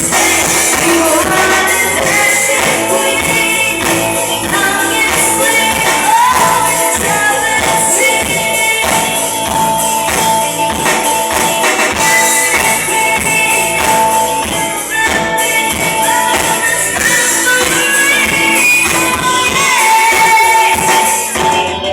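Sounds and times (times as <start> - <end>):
person singing: 0.0 - 10.1, 11.9 - 21.9
guitar: 0.0 - 21.9
steady drum beat: 0.0 - 21.9.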